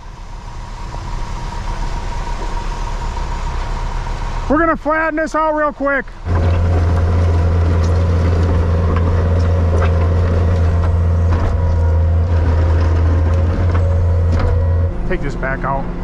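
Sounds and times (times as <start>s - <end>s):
loader engine running hard: 0.0s - 16.0s.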